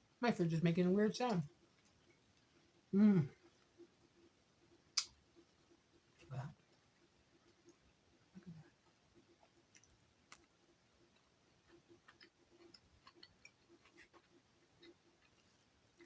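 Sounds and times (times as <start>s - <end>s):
faint ticks and clicks: 0.6s - 16.0s.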